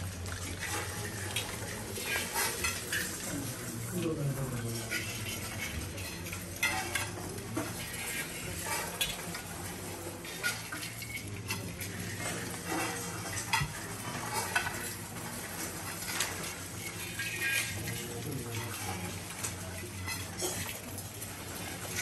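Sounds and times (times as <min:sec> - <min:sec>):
rice grains rustling on metal: 0:00.0 - 0:22.0.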